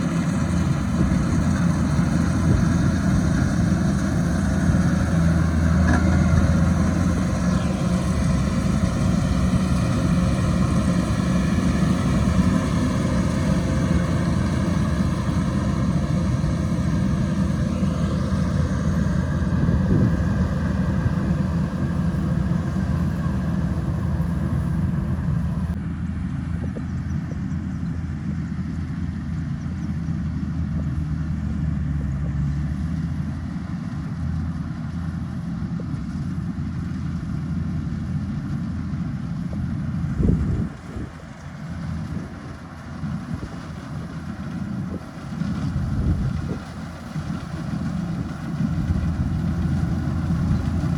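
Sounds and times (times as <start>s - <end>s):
harvester engine running: 0.0s - 50.9s.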